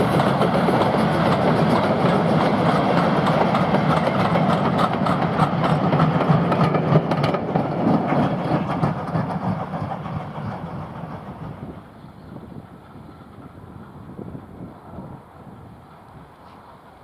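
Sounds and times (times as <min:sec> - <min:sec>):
steam train running past: 0:00.0 - 0:17.0.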